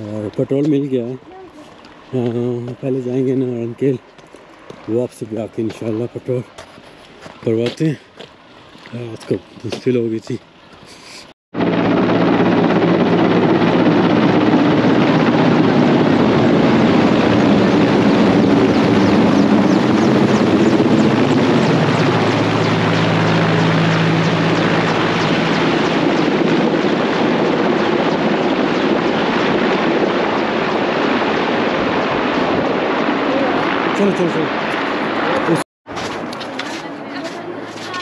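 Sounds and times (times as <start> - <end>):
helicopter flying overhead: 0.0 - 11.0, 11.6 - 38.0.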